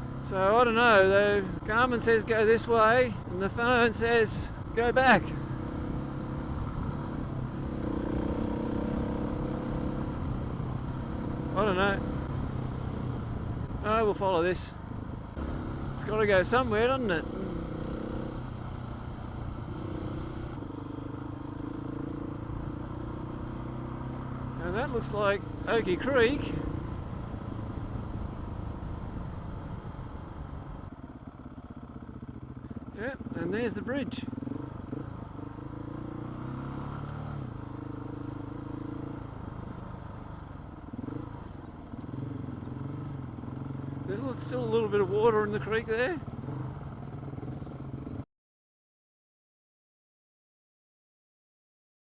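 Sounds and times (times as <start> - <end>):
wind and tyre noise: 0.0 - 33.2, 33.9 - 44.4
motorcycle engine cruising: 0.0 - 48.2
road noise: 0.0 - 48.2.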